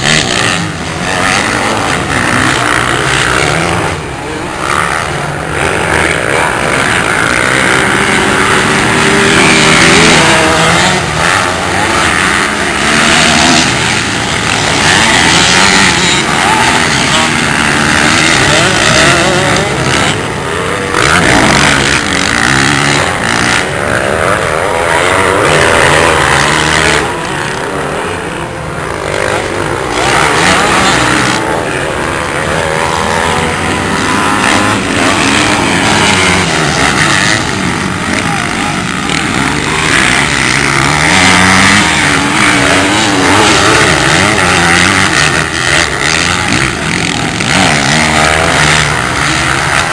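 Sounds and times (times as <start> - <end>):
dirt bike engines revving: 0.0 - 49.9.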